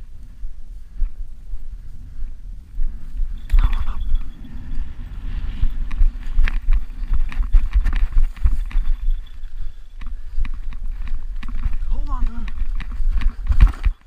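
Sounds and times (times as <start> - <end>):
footsteps crunching through snow: 0.0 - 14.0
wind buffeting microphone: 0.0 - 14.0.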